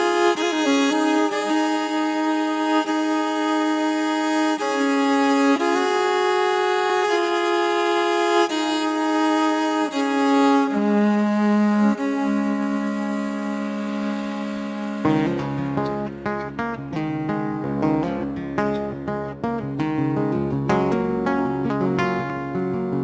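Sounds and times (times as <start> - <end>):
bowed violin melody: 0.0 - 23.0.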